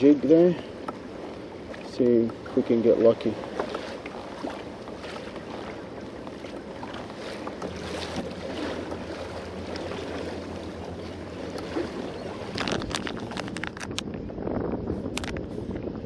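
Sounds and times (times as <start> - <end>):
water lapping against hull: 0.0 - 16.0
wind on microphone: 0.5 - 16.0.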